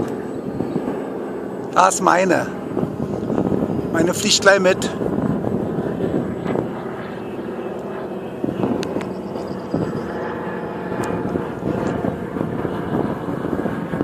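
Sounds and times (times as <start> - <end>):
propeller planes droning overhead: 0.0 - 14.0.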